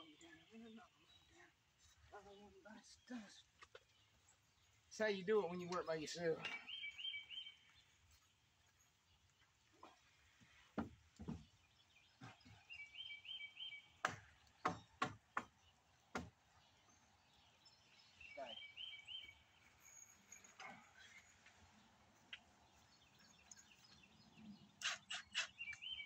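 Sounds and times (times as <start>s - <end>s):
bird chirping: 0.0s - 9.7s, 10.3s - 26.0s.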